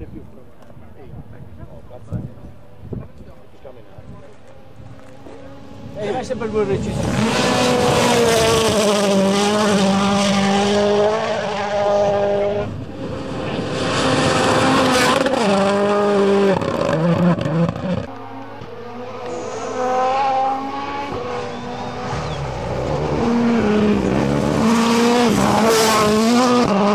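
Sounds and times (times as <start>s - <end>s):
rally car engines revving: 0.0s - 26.9s.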